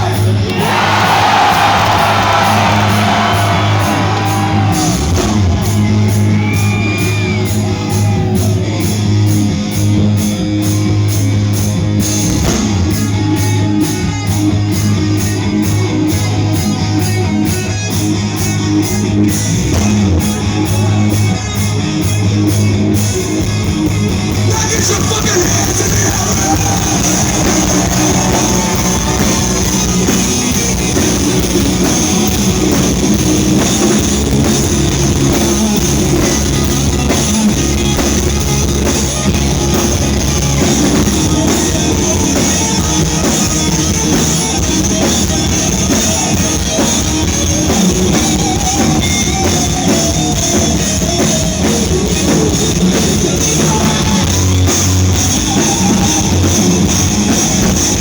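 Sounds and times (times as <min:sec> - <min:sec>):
drum kit: 0:00.0 - 0:58.0
live rock band playing: 0:00.0 - 0:58.0.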